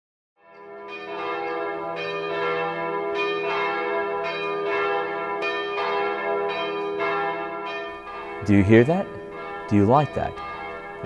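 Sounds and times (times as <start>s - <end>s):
church bells ringing: 0.4s - 11.0s.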